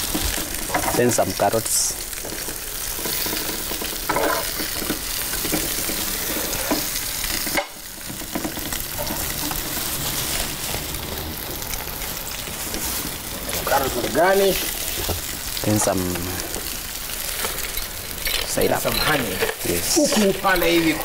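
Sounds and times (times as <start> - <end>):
ribs sizzling in frying: 0.0 - 21.0.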